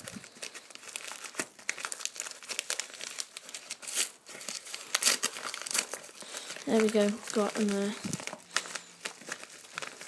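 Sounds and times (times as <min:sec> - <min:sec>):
paper envelope tearing and crinkling: 0:00.0 - 0:10.0.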